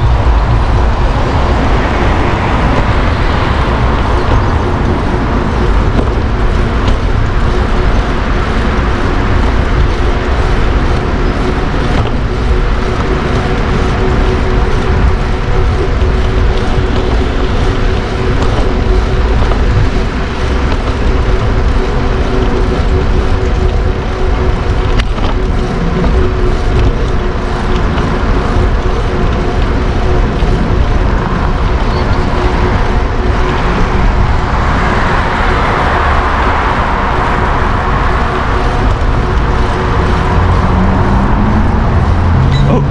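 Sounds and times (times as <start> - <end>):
city street traffic rumble: 0.0 - 42.9.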